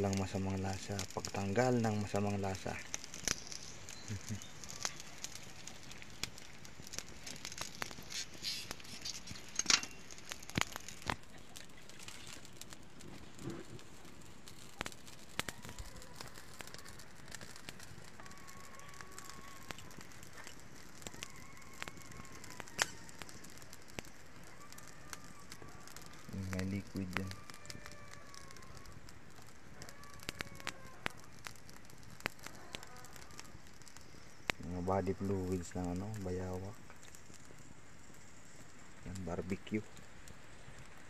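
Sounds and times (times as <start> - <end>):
fire popping: 0.0 - 41.0
wood fire crackling: 0.0 - 41.0.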